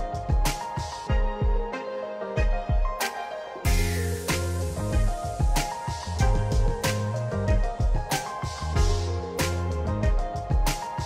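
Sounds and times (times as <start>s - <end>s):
music with bass and beat: 0.0s - 1.8s, 3.7s - 11.0s.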